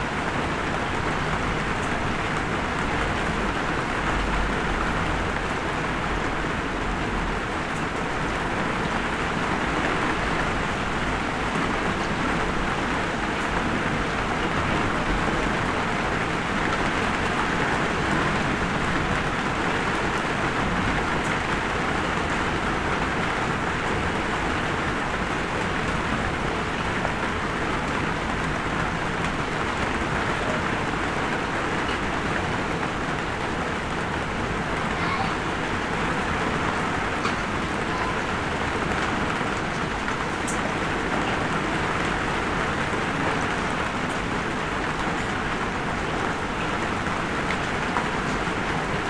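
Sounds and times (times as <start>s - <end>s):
light rain falling: 0.0s - 49.0s.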